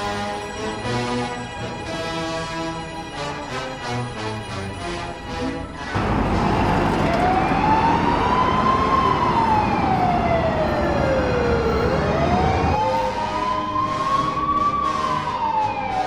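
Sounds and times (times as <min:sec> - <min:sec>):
ambulance siren wailing: 0:00.0 - 0:16.0
road traffic noise: 0:00.0 - 0:16.0.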